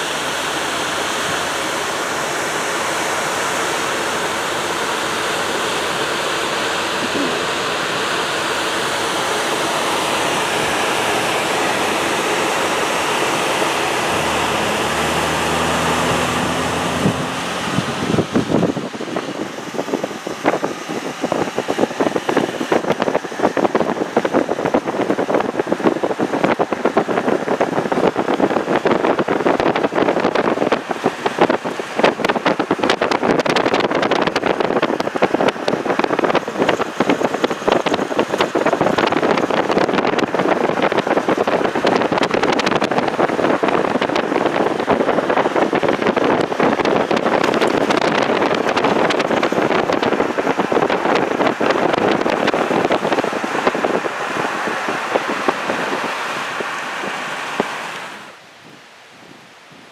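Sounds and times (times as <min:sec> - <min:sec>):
car road noise: 0:00.0 - 0:59.0
wind buffeting microphone: 0:00.0 - 0:59.9.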